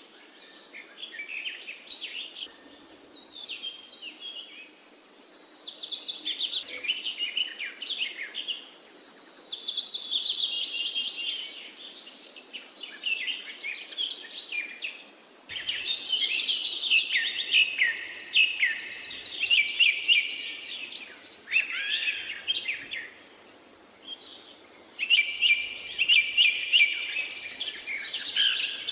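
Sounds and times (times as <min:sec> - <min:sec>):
small birds chirping: 0:00.4 - 0:28.9.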